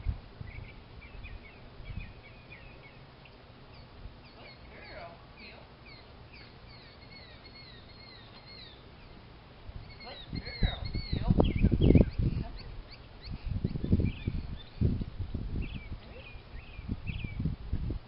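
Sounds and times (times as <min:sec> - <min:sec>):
birds chirping: 0:00.0 - 0:17.5
faint outdoor background noise: 0:00.0 - 0:18.0.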